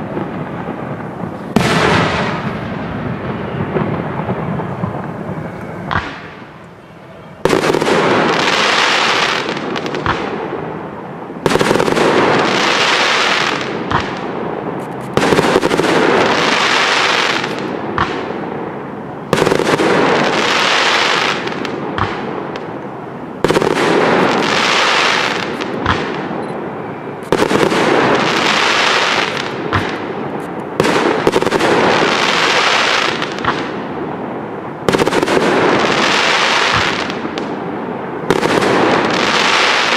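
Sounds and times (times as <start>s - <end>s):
firework crackle and hiss: 0.0s - 39.9s.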